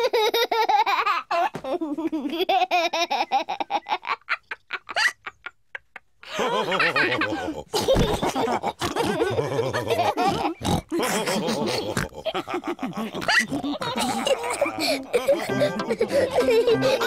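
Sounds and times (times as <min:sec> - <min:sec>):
cartoon pigs laughing: 0:00.0 - 0:17.0.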